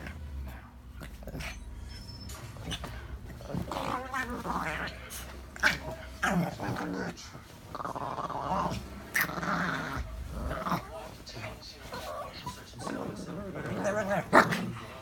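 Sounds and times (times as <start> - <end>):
dog growling in play: 0.0 - 1.7, 2.6 - 15.0.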